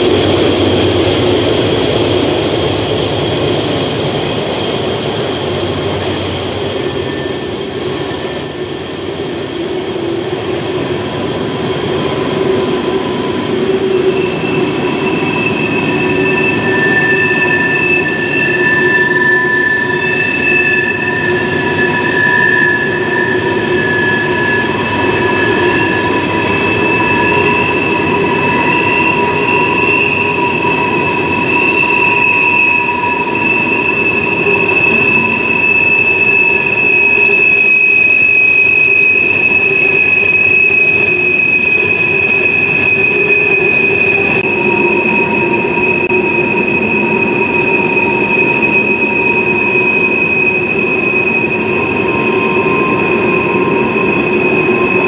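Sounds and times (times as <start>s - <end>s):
train rumble: 0.0s - 55.0s
train wheels squealing: 0.0s - 55.0s.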